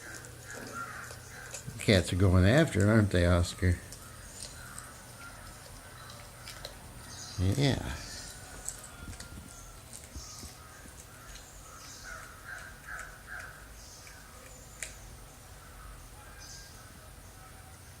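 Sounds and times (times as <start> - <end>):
faint animal calls: 0.0 - 17.8.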